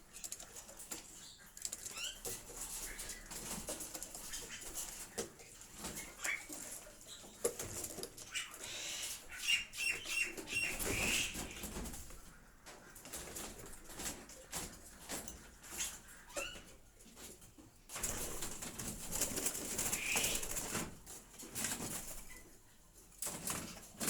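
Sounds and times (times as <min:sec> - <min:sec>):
birds fluttering and rustling: 0:00.0 - 0:24.0.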